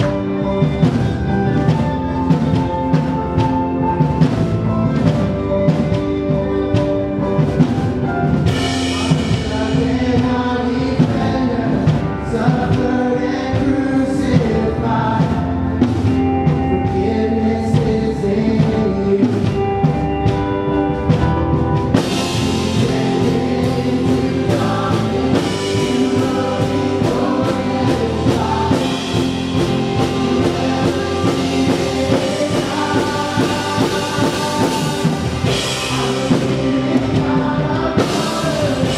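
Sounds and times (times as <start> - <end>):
person singing: 0.0 - 20.8, 21.9 - 38.9
drum kit beat: 0.0 - 38.9
guitars: 0.0 - 38.9
keyboard: 0.0 - 38.9.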